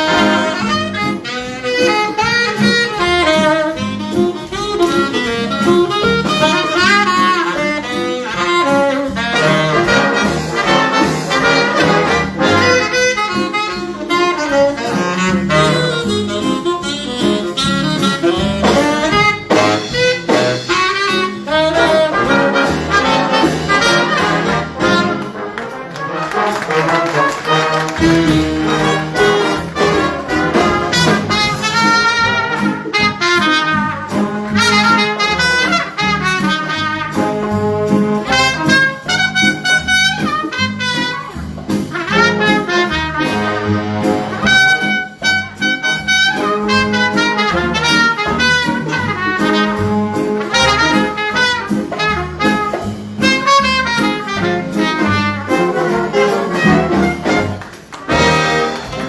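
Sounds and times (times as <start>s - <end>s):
jazz big band playing: 0.0s - 59.0s.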